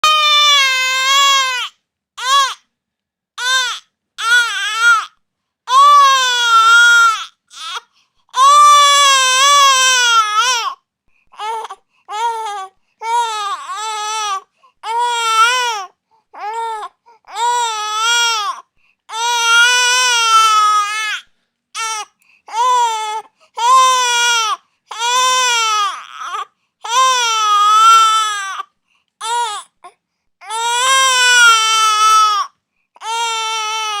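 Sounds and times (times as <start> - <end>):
infant crying: 0.0 - 2.6, 3.4 - 34.0.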